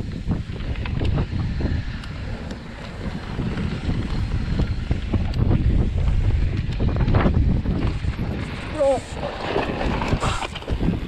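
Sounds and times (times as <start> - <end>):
bike clicks and rattles: 0.0 - 11.0
tyres rolling on dirt trail: 0.0 - 11.0
wind buffeting microphone: 0.0 - 11.0.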